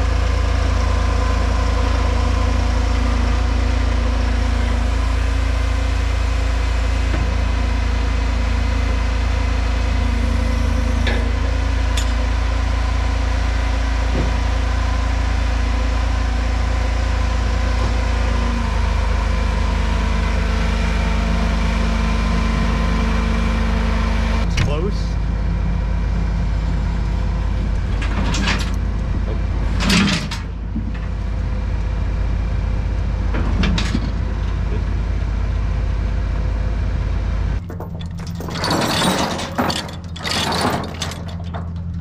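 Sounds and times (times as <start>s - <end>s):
vehicle engine idling: 0.0s - 38.6s.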